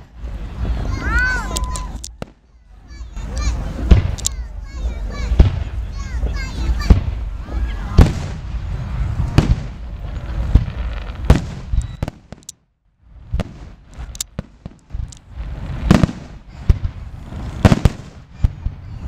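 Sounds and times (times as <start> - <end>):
firework shells bursting: 0.0 - 12.7, 13.3 - 18.7.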